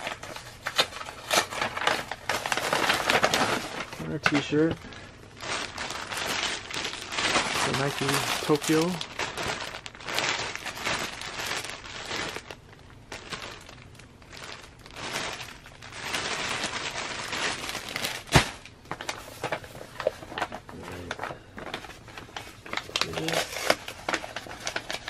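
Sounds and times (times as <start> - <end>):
packaging crinkling: 0.0 - 25.0.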